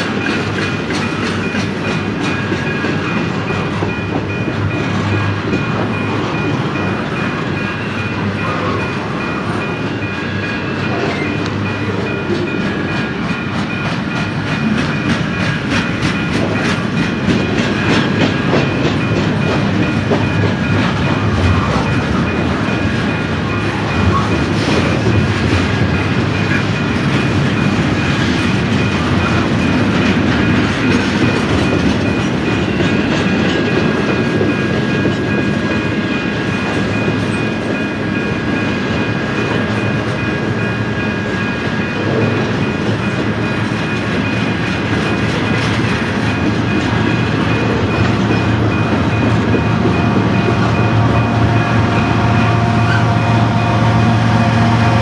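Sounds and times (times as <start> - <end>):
train rumble: 0.0 - 55.0
train wheels clicking on rail joints: 0.0 - 55.0
high-pitched ring: 2.3 - 55.0.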